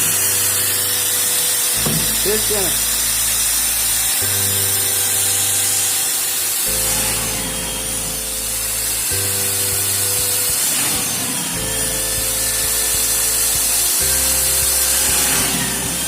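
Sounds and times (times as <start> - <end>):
background music with bass line: 0.0 - 16.0
power tool working wood: 0.0 - 16.0.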